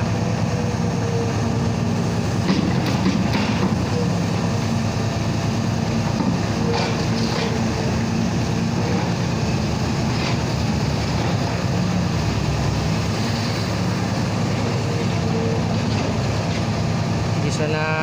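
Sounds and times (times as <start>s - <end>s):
crane machinery droning: 0.0s - 18.0s.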